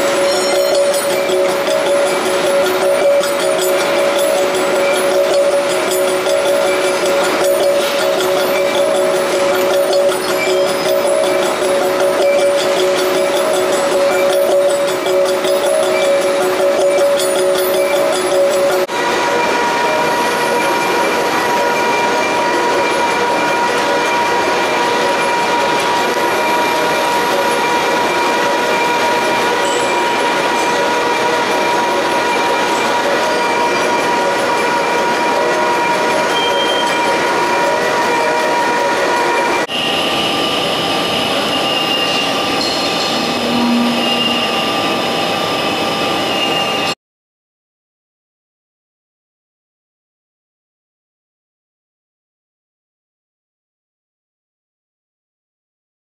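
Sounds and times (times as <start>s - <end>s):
lathe cutting metal with high whine: 0.0s - 47.0s
thin high tones: 0.0s - 47.0s.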